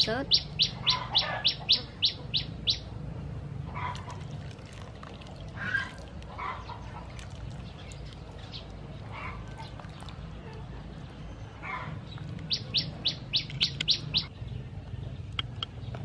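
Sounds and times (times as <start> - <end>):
bird chirping: 0.0 - 2.9, 3.8 - 16.0.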